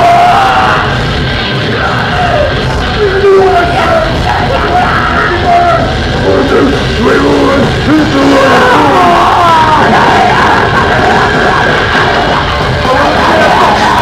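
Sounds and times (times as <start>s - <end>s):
heavy metal band playing: 0.0s - 14.0s.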